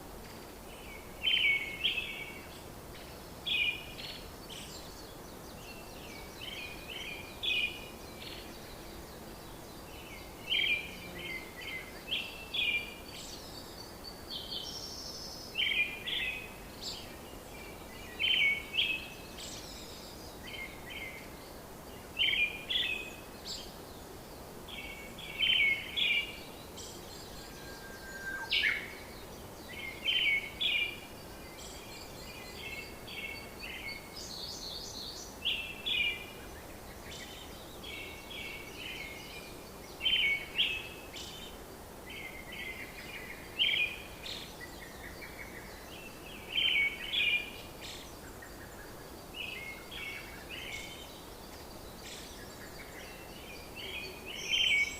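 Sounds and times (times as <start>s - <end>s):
steady background hiss: 0.0s - 54.9s
birds chirping: 0.3s - 54.9s.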